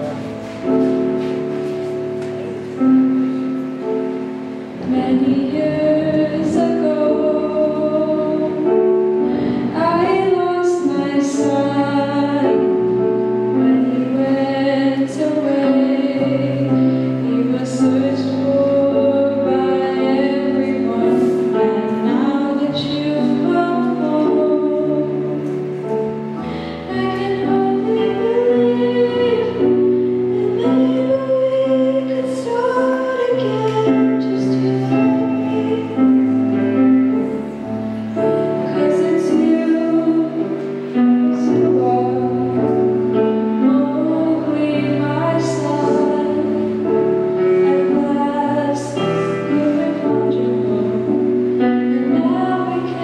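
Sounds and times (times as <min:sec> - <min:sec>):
girl singing into microphone: 0:00.0 - 0:53.0
instrumental accompaniment: 0:00.0 - 0:53.0.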